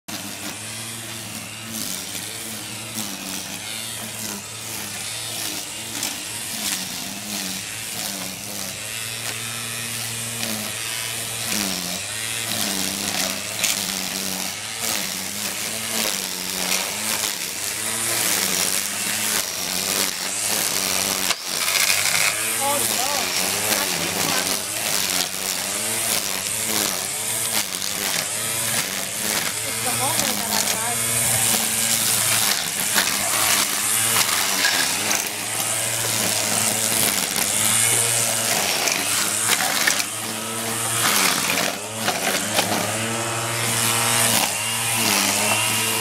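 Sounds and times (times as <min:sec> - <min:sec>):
nylon line cutting grass: 0:00.1 - 0:46.0
string trimmer motor whining: 0:00.1 - 0:46.0.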